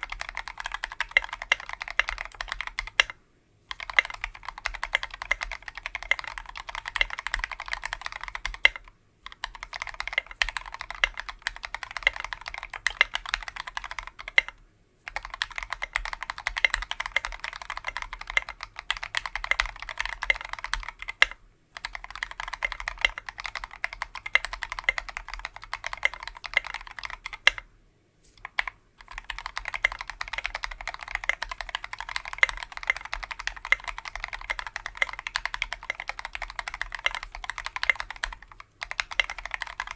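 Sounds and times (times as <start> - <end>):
fast typing on mechanical keyboard: 0.0 - 27.7, 28.4 - 39.9.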